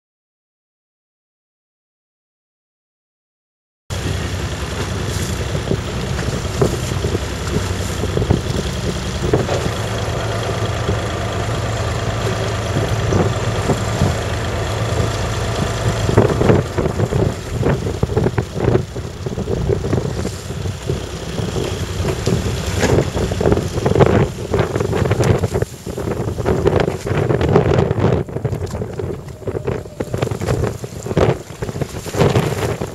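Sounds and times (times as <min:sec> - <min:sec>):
boat engine idling: 0:03.9 - 0:32.9
wind buffeting microphone: 0:03.9 - 0:32.9
water thumps: 0:04.6 - 0:32.9.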